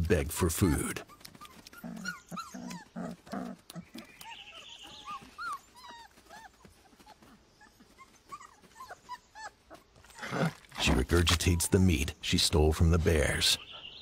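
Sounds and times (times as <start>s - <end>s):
wolf pups whimpering: 0.3s - 12.2s.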